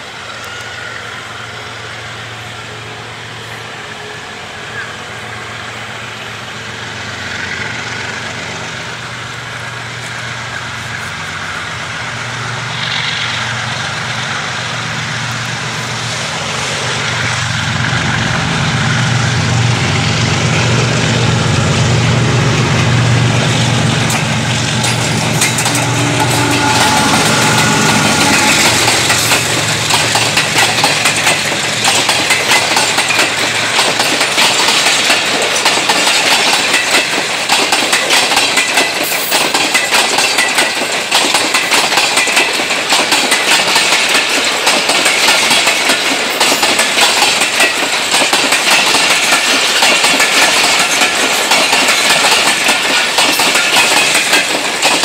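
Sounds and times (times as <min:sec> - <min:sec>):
diesel locomotive engine hum: 0:00.0 - 0:55.0
train wheels clattering over rail joints: 0:06.7 - 0:55.0.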